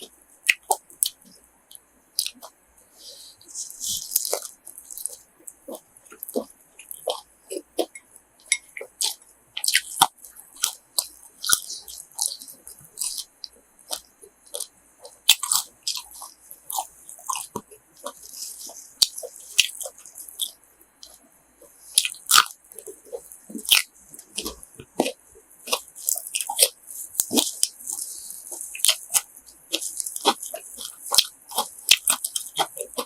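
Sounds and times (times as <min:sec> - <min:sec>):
person chewing food: 0:00.0 - 0:33.0
wet mouth clicks and crunches: 0:00.4 - 0:01.4, 0:02.2 - 0:33.0.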